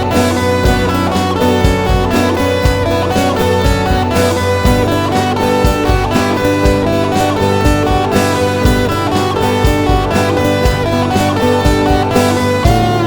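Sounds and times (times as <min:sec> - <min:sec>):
music with guitar and horns: 0:00.0 - 0:13.0.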